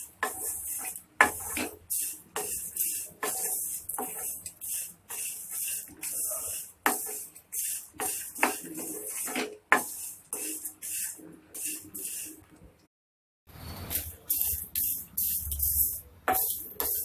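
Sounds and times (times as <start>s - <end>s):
spatula scraping metal pan: 0.0s - 12.4s, 13.6s - 17.0s.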